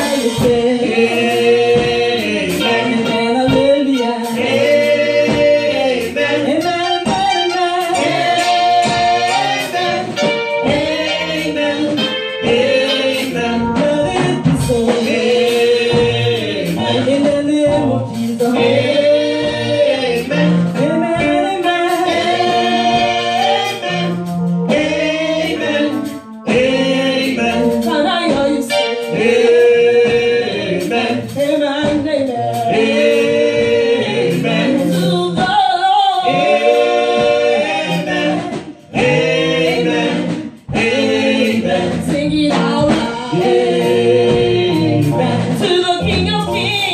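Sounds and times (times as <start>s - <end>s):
women singing gospel: 0.0s - 46.9s.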